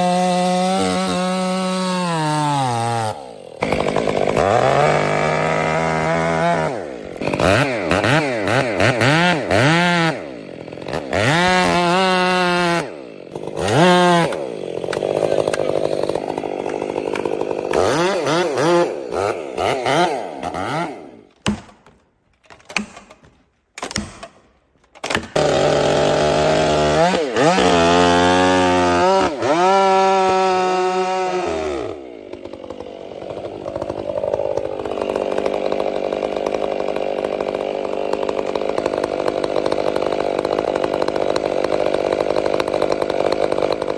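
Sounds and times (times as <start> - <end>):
chainsaw revving: 0.0 - 21.3, 25.1 - 43.9.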